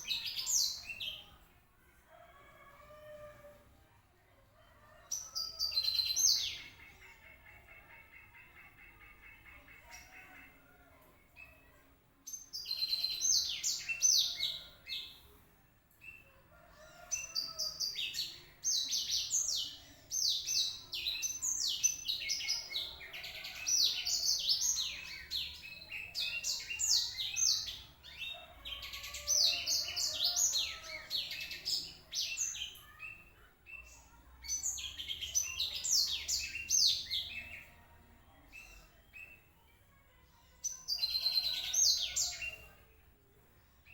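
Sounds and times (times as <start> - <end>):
canary singing warbling song: 0.0 - 1.5, 4.9 - 15.4, 16.0 - 39.6, 40.4 - 43.1.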